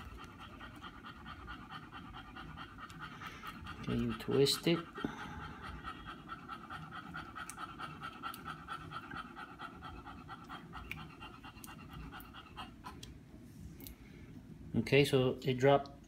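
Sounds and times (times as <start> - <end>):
dog panting: 0.0 - 13.4.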